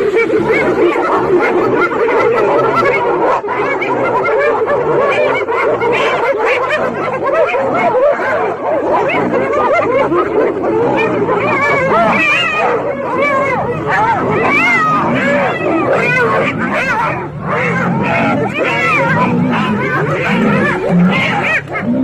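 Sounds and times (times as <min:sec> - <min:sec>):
hyenas giggling and cackling: 0:00.0 - 0:22.0.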